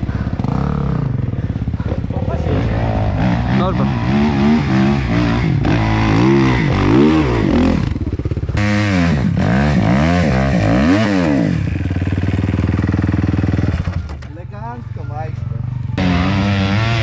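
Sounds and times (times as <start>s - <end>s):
motorcycle engine revving: 0.0s - 14.3s, 15.4s - 17.0s.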